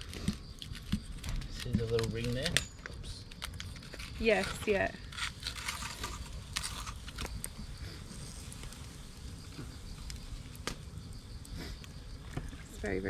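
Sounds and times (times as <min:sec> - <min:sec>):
campfire crackling and popping: 0:00.0 - 0:13.0
insects chirring: 0:00.0 - 0:13.0.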